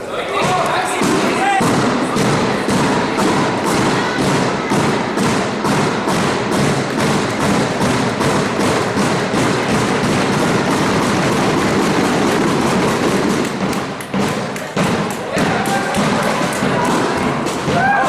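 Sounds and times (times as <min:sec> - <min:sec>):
spectators beating a steady rhythm: 0:00.0 - 0:18.0.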